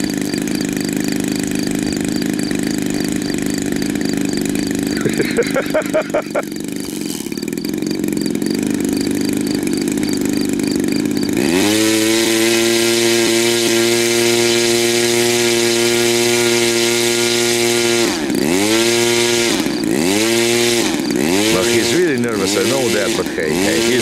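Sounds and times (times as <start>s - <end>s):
model airplane engine revving: 0.0s - 24.0s.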